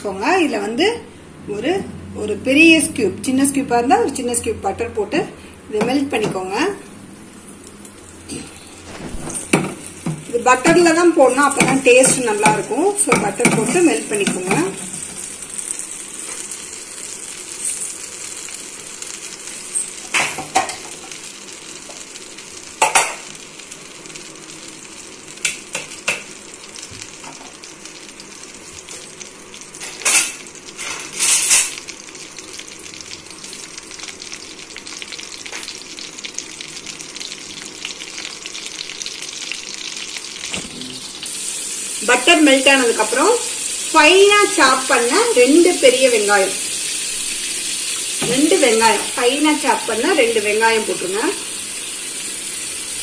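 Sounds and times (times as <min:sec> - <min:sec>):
butter sizzling in a pan: 0:07.1 - 0:53.0.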